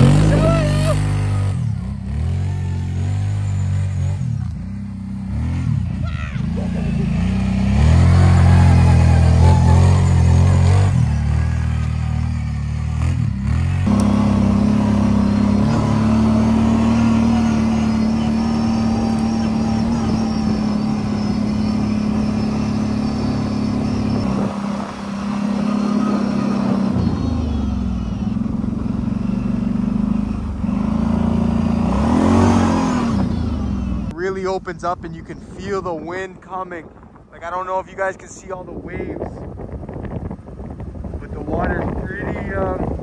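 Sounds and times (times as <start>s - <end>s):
atv engine running hard: 0.0s - 35.0s, 38.5s - 43.0s.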